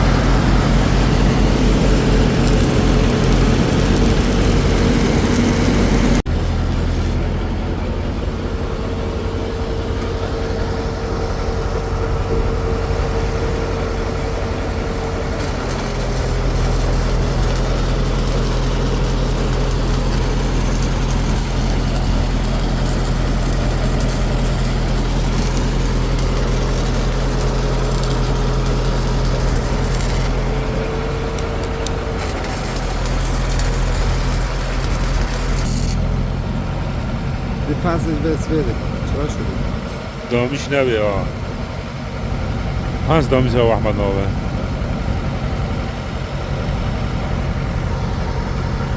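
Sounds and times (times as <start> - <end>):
heavy engine droning: 0.0 - 48.9.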